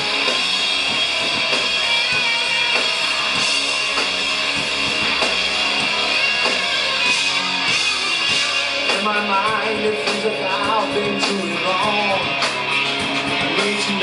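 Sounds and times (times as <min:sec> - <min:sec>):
drum kit beat: 0:00.0 - 0:14.0
electric guitar: 0:00.0 - 0:14.0.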